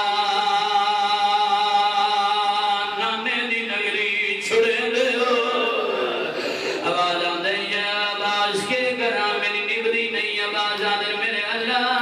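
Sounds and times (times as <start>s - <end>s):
man chanting a lament: 0.0s - 12.0s.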